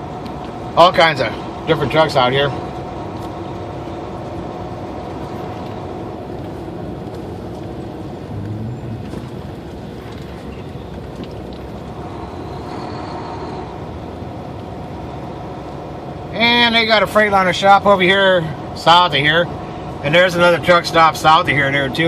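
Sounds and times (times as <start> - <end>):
diesel truck engine running: 0.0 - 22.0
road noise: 0.0 - 22.0.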